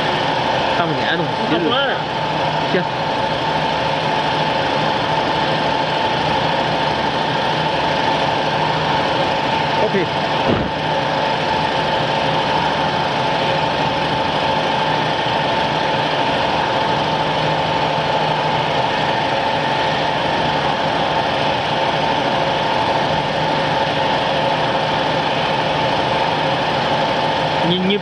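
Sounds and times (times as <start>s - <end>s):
router spindle whine: 0.0s - 28.0s.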